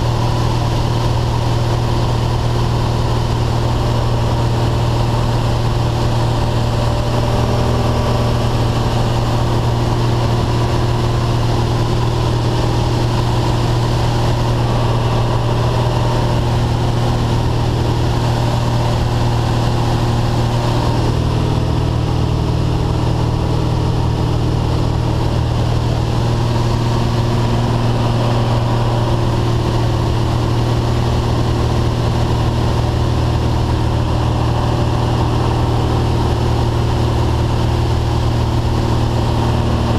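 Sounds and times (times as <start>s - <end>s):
plane engine and propeller droning: 0.0s - 39.9s.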